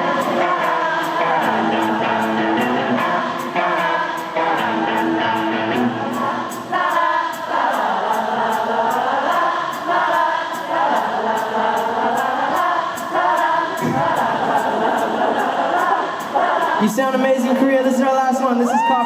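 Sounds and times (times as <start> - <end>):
audience singing along: 0.0 - 18.1.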